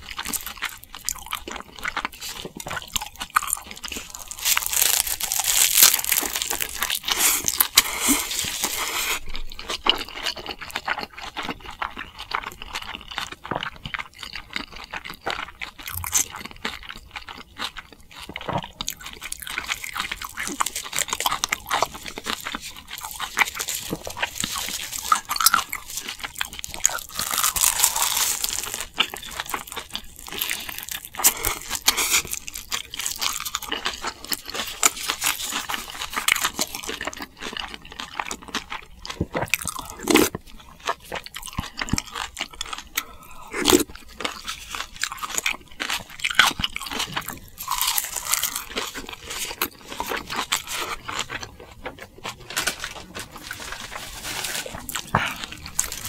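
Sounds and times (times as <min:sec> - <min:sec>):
food crunched and chewed: 0:00.0 - 0:56.0.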